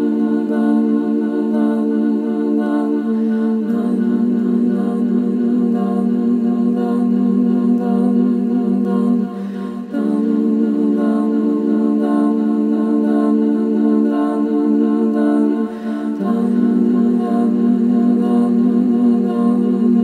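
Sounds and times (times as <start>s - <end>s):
voices humming low drone: 0.0s - 20.0s.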